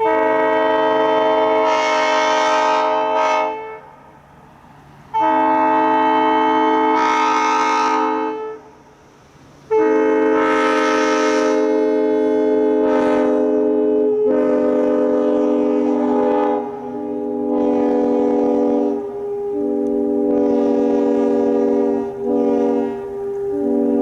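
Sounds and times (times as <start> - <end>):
locomotive air horn blasts: 0.0 - 4.1, 5.1 - 9.0, 9.7 - 24.0.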